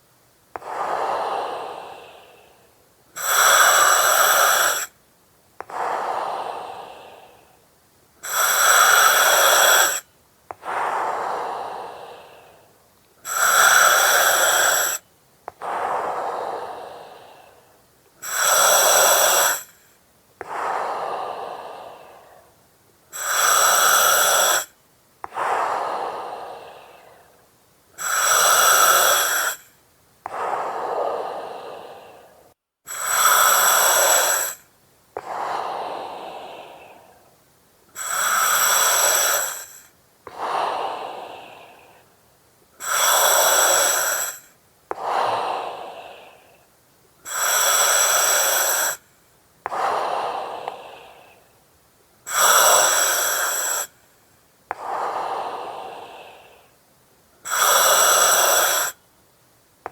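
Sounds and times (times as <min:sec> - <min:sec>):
breathing through oxygen mask: 0:00.6 - 0:05.0, 0:05.6 - 0:07.6, 0:08.2 - 0:27.4, 0:28.0 - 0:37.3, 0:37.9 - 0:42.1, 0:42.8 - 0:51.5, 0:52.3 - 0:54.0, 0:54.7 - 0:56.8, 0:57.4 - 0:59.0.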